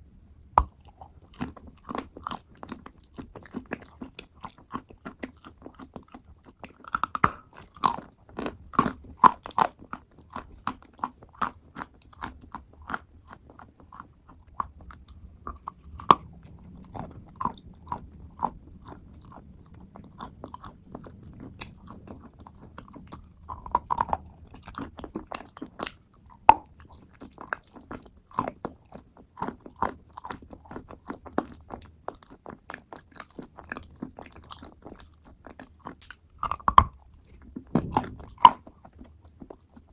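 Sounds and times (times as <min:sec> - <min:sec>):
chewing and crunching clay: 0:00.0 - 0:39.9.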